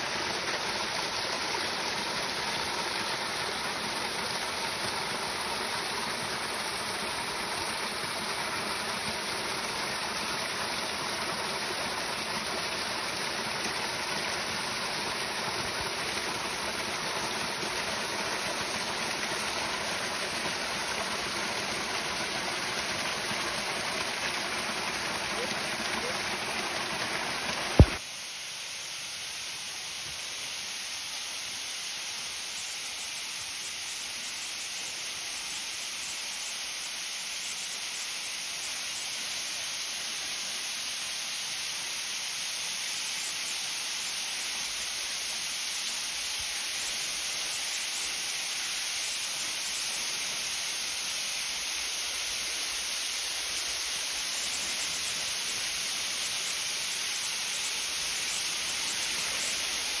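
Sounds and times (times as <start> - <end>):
rushing spraying water: 0.0 - 28.1, 35.1 - 60.0.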